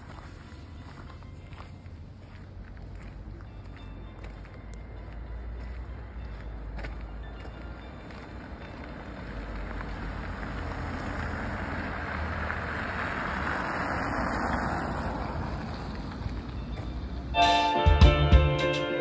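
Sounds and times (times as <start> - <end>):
car passing on snowy street: 0.0 - 19.0.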